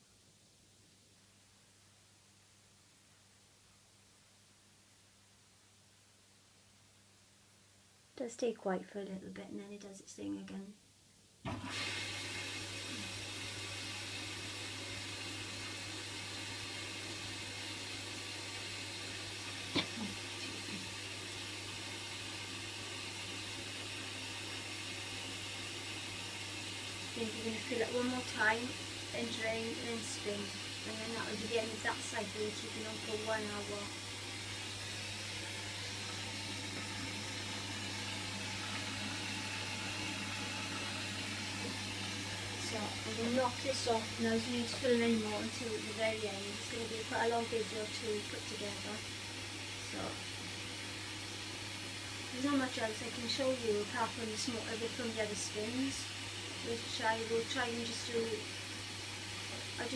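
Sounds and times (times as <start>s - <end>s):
washing machine hum: 11.5s - 59.9s
water rushing in washing machine: 11.5s - 59.9s.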